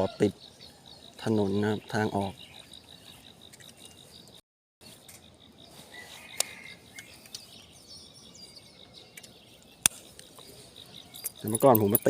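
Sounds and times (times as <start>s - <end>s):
birds chirping: 0.0s - 12.0s
insects trilling: 0.0s - 12.0s.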